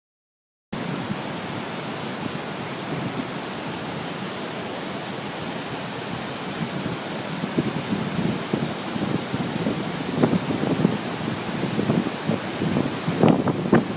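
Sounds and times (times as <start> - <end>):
waterfall rushing: 0.8 - 13.9.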